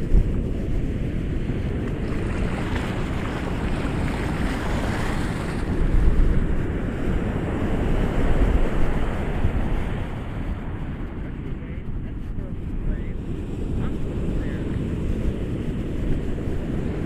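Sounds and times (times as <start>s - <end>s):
ocean waves on shore: 0.0s - 17.0s.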